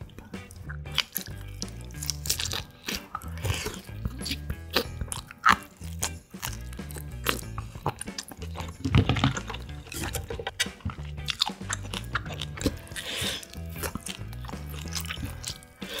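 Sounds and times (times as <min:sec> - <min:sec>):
chewing and biting meat: 0:00.0 - 0:16.0
quiet background music: 0:00.0 - 0:16.0.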